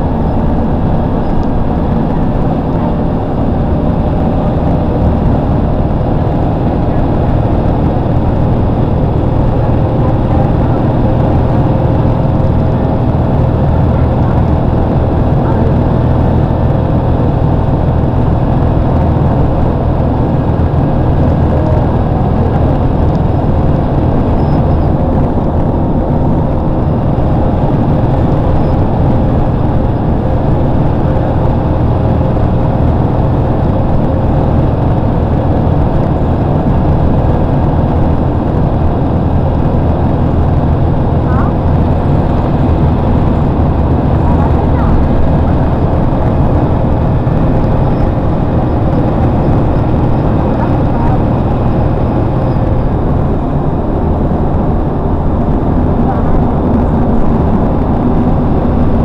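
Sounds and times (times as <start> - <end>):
road and engine drone in cabin: 0.0 - 59.0.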